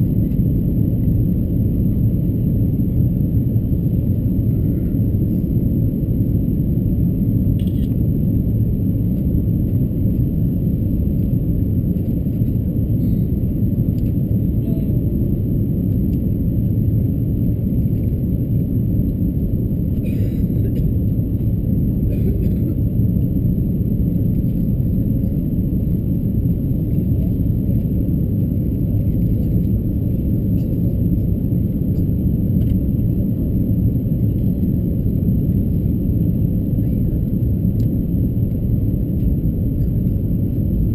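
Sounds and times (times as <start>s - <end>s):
airliner cabin rumble in flight: 0.0s - 40.9s.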